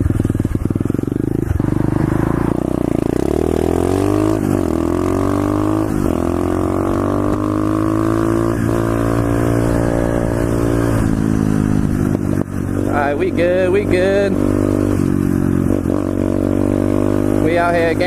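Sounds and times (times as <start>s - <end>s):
motorbike engine accelerating: 0.0s - 18.0s.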